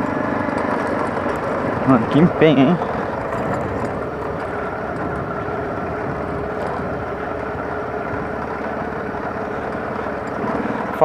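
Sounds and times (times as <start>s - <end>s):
motorcycle engine running: 0.0s - 11.0s
tyres rolling over cobblestones: 0.0s - 11.0s.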